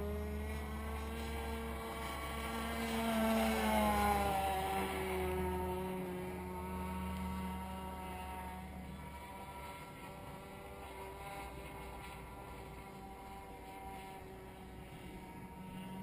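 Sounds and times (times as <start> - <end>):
model aircraft engine buzzing: 0.0 - 16.0.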